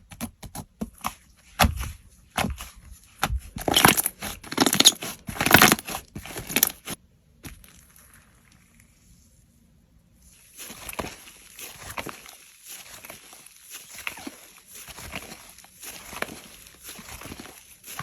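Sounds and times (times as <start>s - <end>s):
slime squishing: 0.0s - 8.4s, 10.5s - 18.0s.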